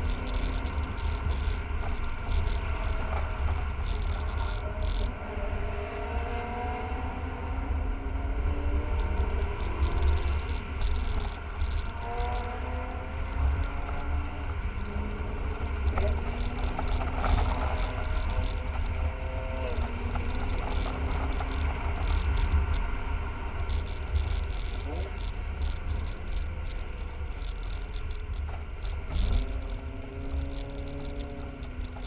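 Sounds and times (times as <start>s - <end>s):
car engine and tyres rumbling: 0.0s - 32.0s.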